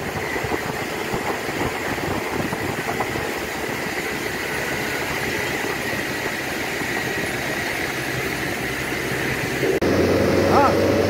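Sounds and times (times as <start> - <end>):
road and cab noise: 0.0 - 11.0
truck engine running: 0.0 - 11.0.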